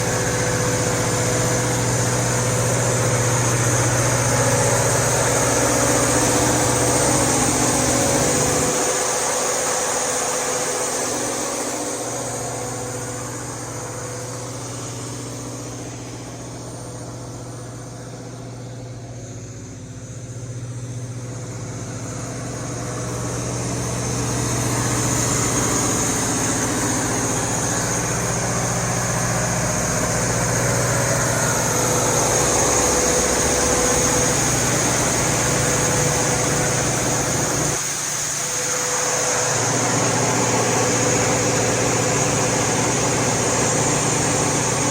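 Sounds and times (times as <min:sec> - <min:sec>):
diesel generator engine running: 0:00.0 - 0:44.9.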